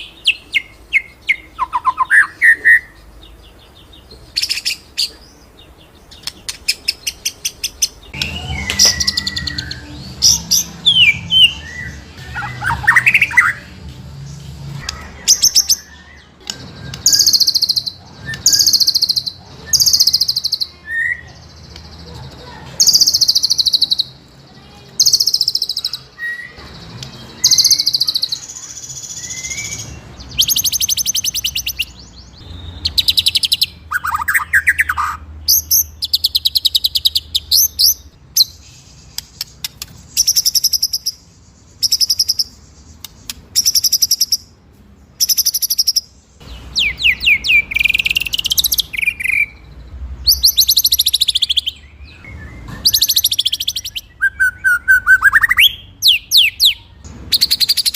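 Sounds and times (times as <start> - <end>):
songbird singing trills: 0.0 - 57.9.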